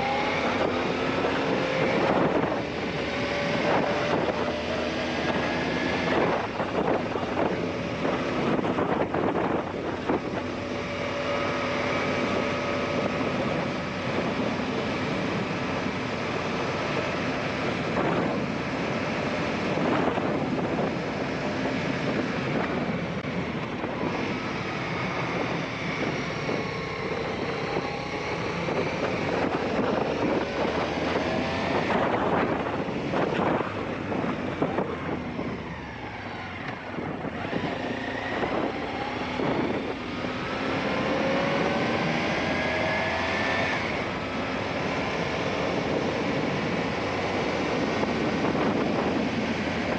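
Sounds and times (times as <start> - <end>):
motorcycle engine revving: 0.0 - 49.9
wind noise on microphone: 0.0 - 49.9.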